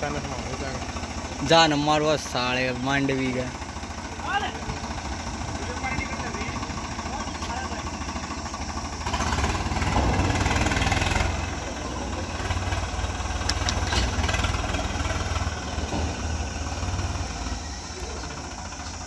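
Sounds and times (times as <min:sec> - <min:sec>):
tractor diesel engine running hard: 0:00.0 - 0:19.0.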